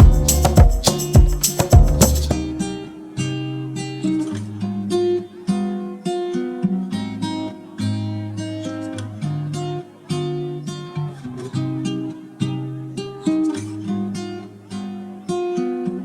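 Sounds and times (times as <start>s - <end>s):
acoustic guitar picked and strummed: 0.0s - 16.0s.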